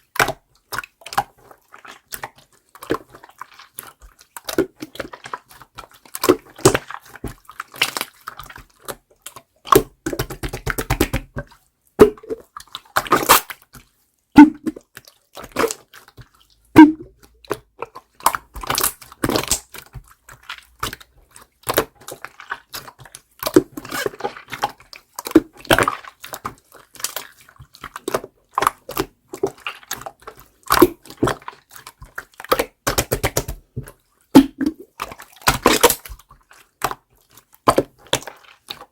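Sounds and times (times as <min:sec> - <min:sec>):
slime squelching and popping: 0:00.0 - 0:38.9.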